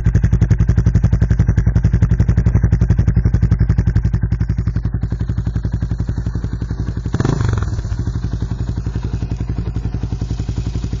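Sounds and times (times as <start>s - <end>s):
motorcycle engine revving: 0.0s - 11.0s
motorcycle idling: 0.0s - 11.0s.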